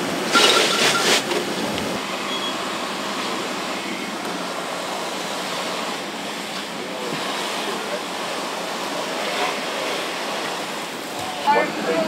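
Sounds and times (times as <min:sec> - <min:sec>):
fire hoses and pumps rushing: 0:00.0 - 0:12.0.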